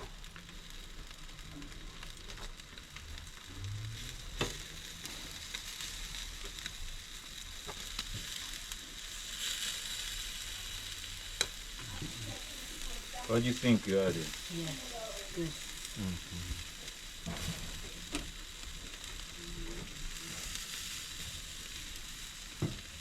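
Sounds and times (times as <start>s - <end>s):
chicken sizzling on a grill: 0.0s - 23.0s.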